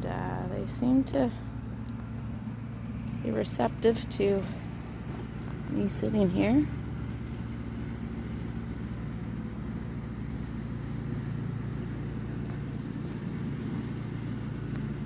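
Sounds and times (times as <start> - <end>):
honeybees humming: 0.0 - 15.0.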